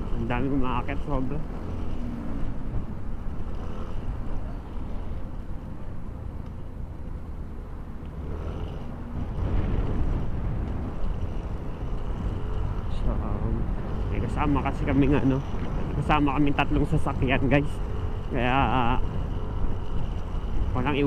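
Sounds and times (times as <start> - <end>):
motorcycle engine: 0.0 - 21.0
wind rumble on microphone: 0.0 - 21.0.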